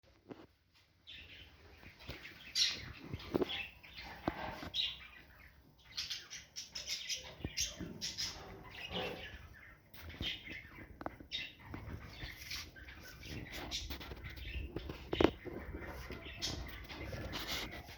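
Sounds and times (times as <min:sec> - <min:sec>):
parrots chirping and squawking: 0:01.1 - 0:17.9.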